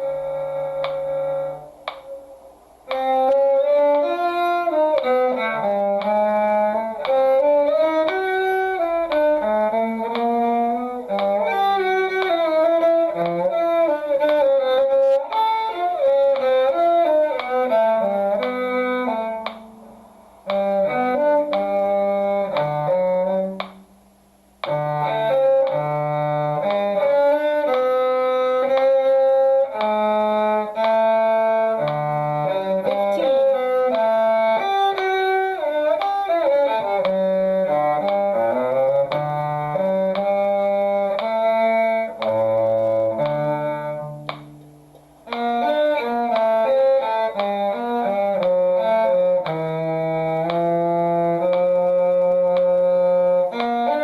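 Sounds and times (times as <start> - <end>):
higher bowed string melody: 0.0 - 23.9, 24.6 - 54.0
low cello line: 0.0 - 54.0.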